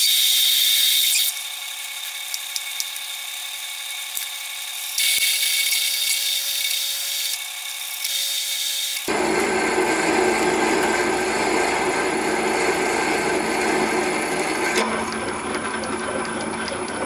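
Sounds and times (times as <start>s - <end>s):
metal lathe drilling whine: 0.0s - 2.4s, 3.4s - 17.0s.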